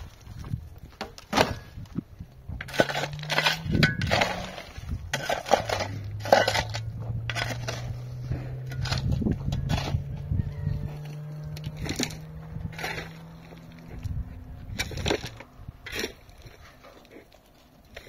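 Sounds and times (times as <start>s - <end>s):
hard knocks and scraping clatter: 0.0s - 18.0s
low hum: 2.0s - 17.9s.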